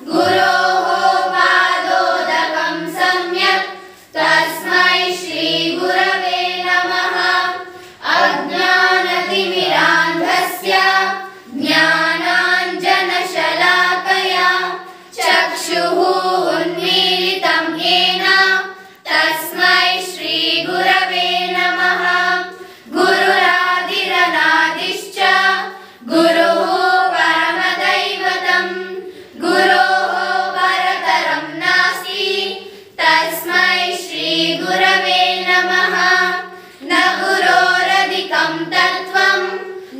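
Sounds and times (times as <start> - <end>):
children singing a hymn in unison: 0.0 - 39.9.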